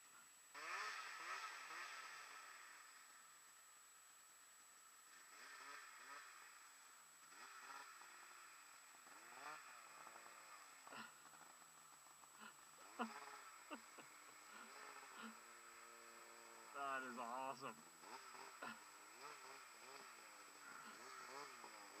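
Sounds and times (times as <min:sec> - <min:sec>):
distant snowmobile engine revving: 0:00.0 - 0:22.0.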